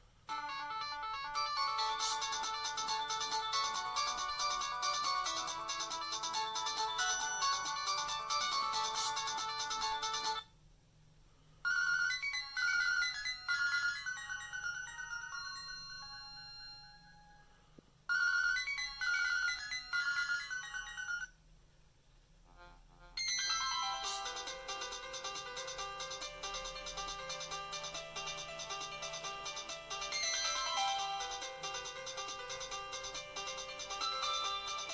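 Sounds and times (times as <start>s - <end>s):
phone ringtone beeping melodies: 0.3s - 10.5s, 11.6s - 17.5s, 18.1s - 21.4s, 23.2s - 34.9s.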